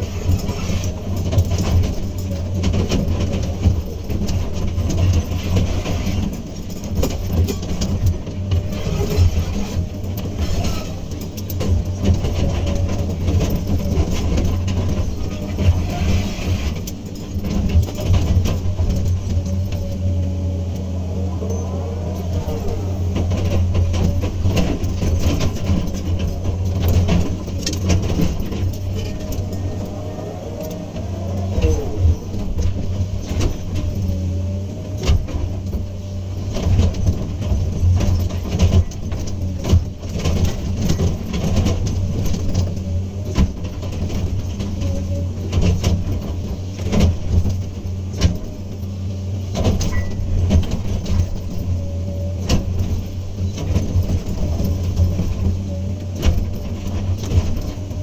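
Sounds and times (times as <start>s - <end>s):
excavator diesel engine running: 0.0s - 58.0s
hydraulic whine: 0.0s - 58.0s.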